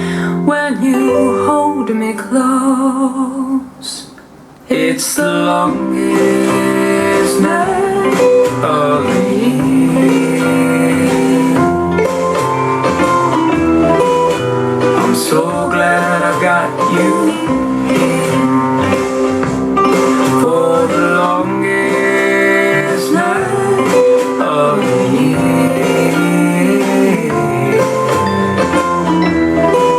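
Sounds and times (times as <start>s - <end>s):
guitar-led song through speakers: 0.0s - 29.9s.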